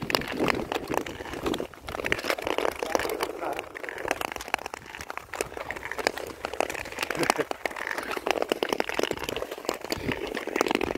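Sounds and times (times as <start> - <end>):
ice crackling: 0.0 - 10.9
ice skates scraping over ice: 0.0 - 10.9.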